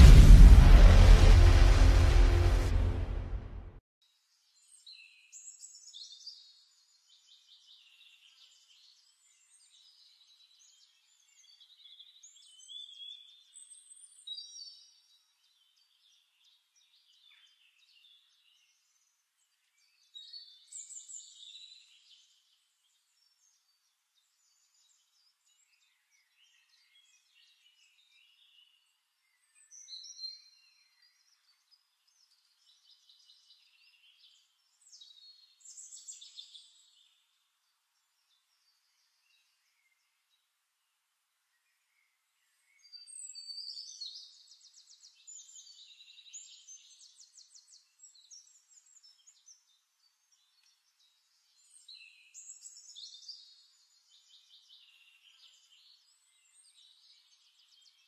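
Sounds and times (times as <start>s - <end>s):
faint songbirds singing: 4.1s - 58.0s.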